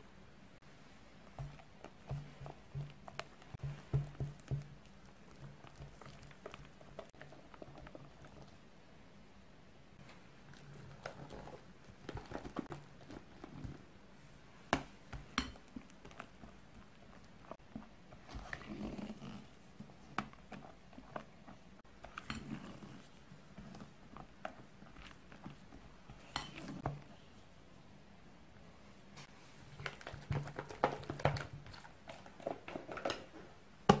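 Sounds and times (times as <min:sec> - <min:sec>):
batter squelching and scraping: 0:00.6 - 0:08.8, 0:10.0 - 0:27.5, 0:29.2 - 0:33.4.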